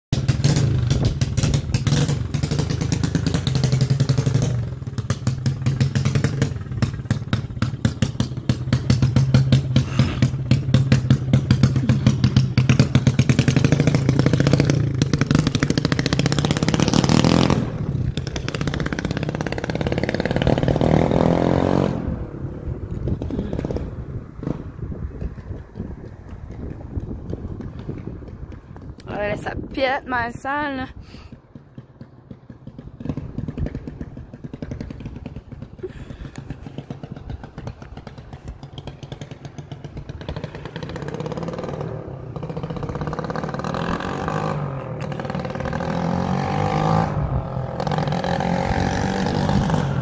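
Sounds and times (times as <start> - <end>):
engine running and revving: 0.1 - 28.8, 31.4 - 50.0.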